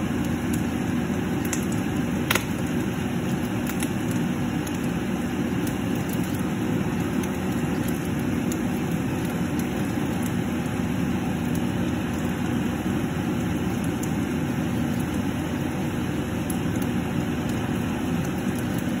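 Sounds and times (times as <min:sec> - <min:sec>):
low kitchen hum: 0:00.0 - 0:19.0
sauce simmering ticks: 0:00.0 - 0:19.0.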